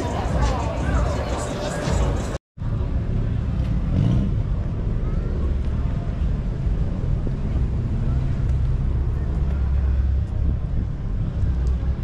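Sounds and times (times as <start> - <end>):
car engines idling and moving: 0.0 - 12.0.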